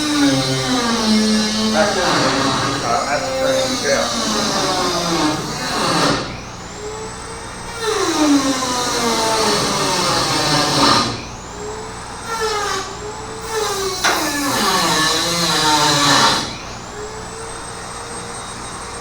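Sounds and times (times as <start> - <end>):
power tool running: 0.0 - 19.0.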